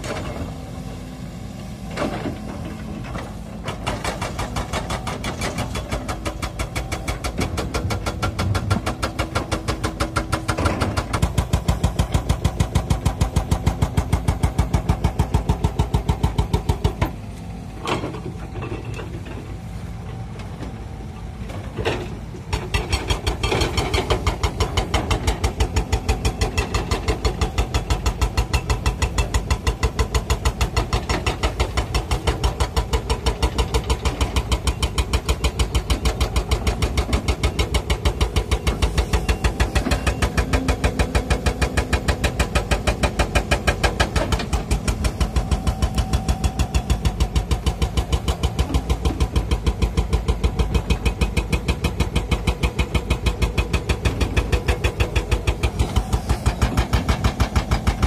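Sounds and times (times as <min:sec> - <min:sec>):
excavator diesel engine throbbing: 0:00.0 - 0:58.0.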